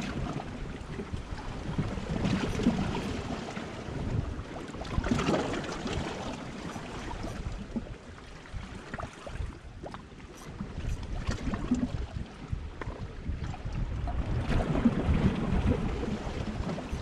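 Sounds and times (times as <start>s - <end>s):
water lapping against rocks: 0.0s - 17.0s
wind rumbling on microphone: 0.0s - 17.0s.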